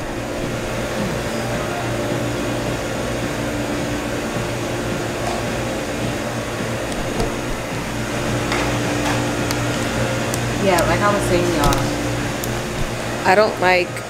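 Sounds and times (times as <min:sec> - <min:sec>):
room machinery humming: 0:00.0 - 0:14.0.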